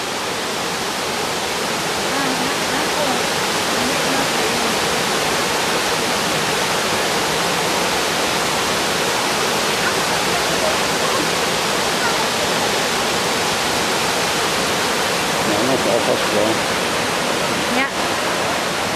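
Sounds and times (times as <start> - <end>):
water rushing over rocks: 0.0 - 18.9.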